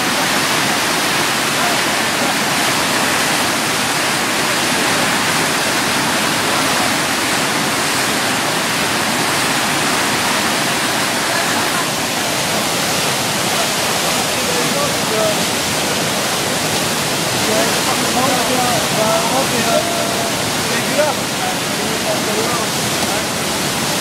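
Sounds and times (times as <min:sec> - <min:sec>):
whitewater roaring: 0:00.0 - 0:24.0.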